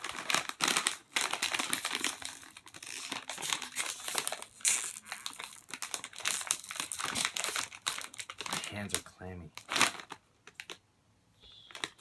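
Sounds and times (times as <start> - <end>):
plastic snack bag crinkling: 0.0 - 10.8, 11.6 - 12.0.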